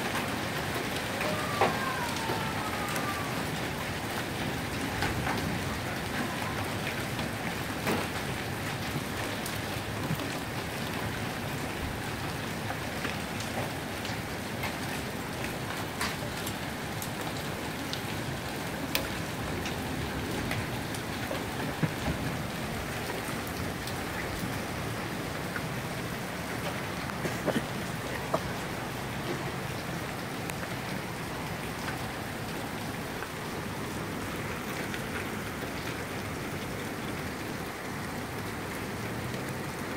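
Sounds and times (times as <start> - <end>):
rain and hail rushing: 0.0 - 39.9.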